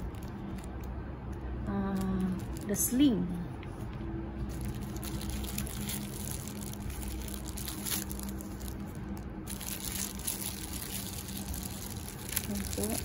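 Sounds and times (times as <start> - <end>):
plastic wrap crinkling: 0.0 - 1.0, 1.8 - 3.0, 4.4 - 13.0.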